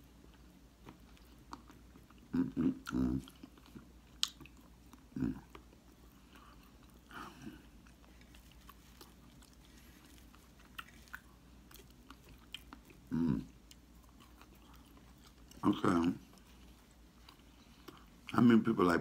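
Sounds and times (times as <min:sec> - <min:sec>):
person chewing crispy fried fish: 0:00.0 - 0:18.3.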